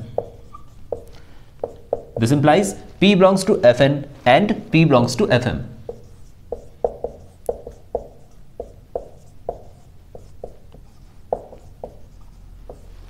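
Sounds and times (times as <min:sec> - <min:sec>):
marker writing on whiteboard: 0:00.0 - 0:03.8, 0:04.4 - 0:13.0.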